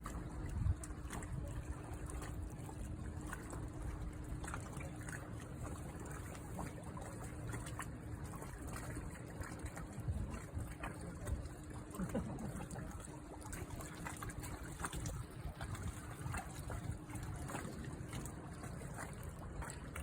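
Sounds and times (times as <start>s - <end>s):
faint steady hum: 0.0s - 20.0s
water trickling and lapping: 0.0s - 20.0s.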